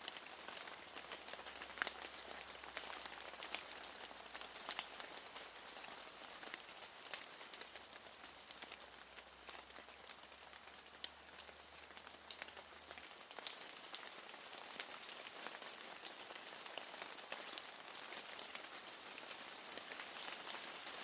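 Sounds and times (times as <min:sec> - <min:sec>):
rain on a window: 0:00.0 - 0:21.0
raindrops ticking on glass: 0:00.1 - 0:21.0.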